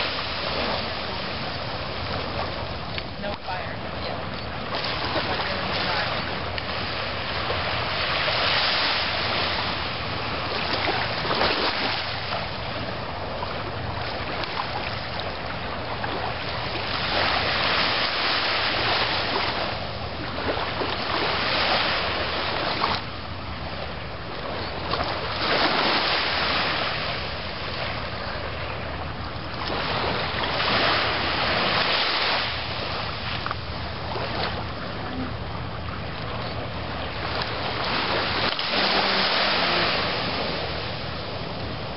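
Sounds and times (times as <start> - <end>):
ocean waves breaking on beach: 0.0 - 41.9.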